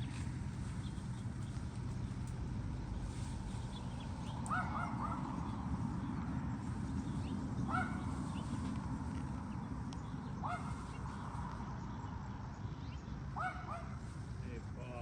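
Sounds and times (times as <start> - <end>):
steady low rumbling: 0.0 - 13.4.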